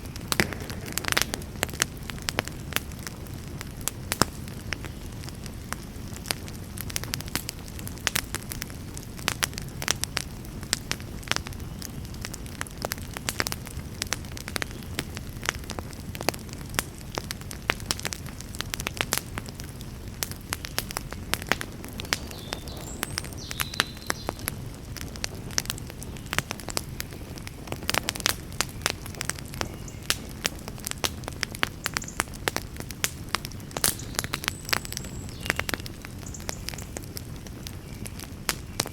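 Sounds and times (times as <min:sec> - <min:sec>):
campfire crackling and popping: 0:00.0 - 0:38.9
low rush of flame: 0:00.0 - 0:38.9.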